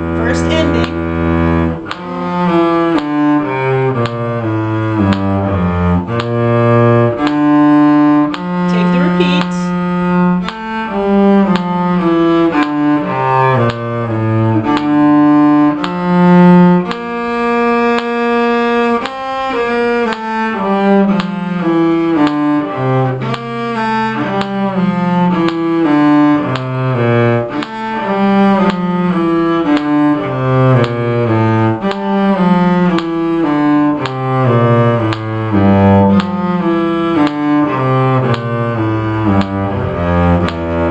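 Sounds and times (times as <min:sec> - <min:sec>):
cello bowing a melody: 0:00.0 - 0:40.9
metronome clicking: 0:00.0 - 0:40.9.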